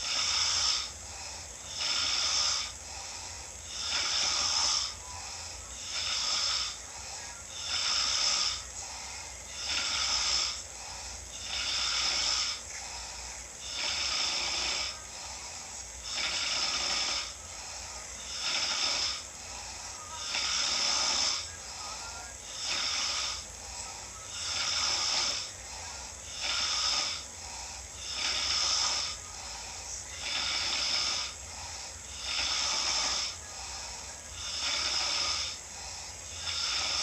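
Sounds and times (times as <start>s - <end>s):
person snoring: 0.0s - 37.0s.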